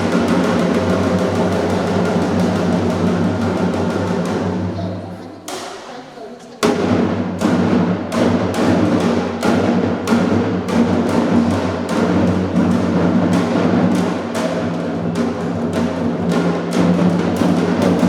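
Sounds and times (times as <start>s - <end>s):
drums in steady beat: 0.0s - 4.8s, 6.6s - 18.0s.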